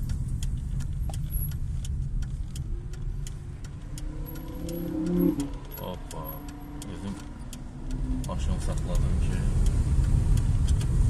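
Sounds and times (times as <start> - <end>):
light ticking clicks: 0.0 - 11.0
road and engine rumble: 0.0 - 11.0.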